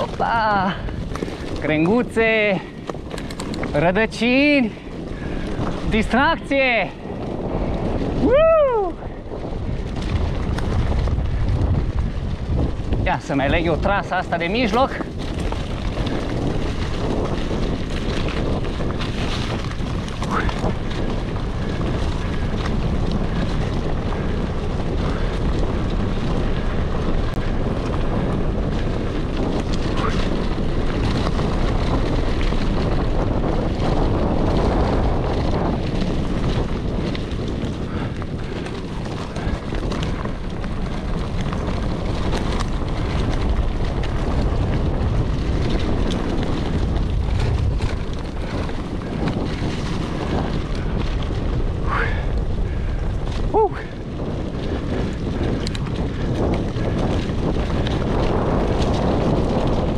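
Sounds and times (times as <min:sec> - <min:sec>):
mountain bike rattling and clicking: 0:00.0 - 0:59.9
wind buffeting microphone: 0:00.0 - 0:59.9.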